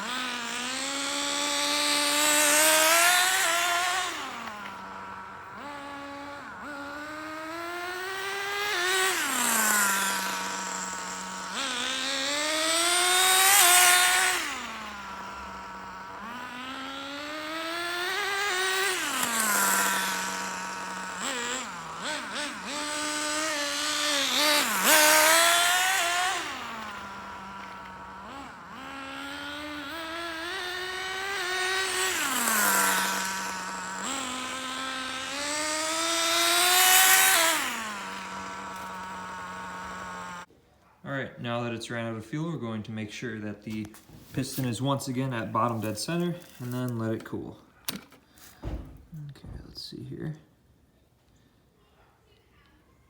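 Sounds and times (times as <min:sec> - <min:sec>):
nitro rc car engine revving: 0:00.0 - 0:40.5, 0:43.8 - 0:49.0.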